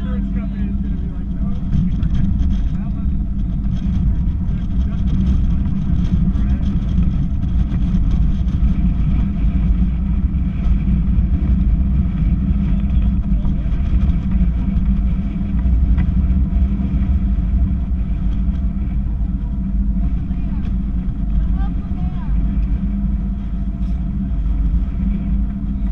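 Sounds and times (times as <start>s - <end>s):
gusty wind buffeting microphone: 0.0s - 25.9s.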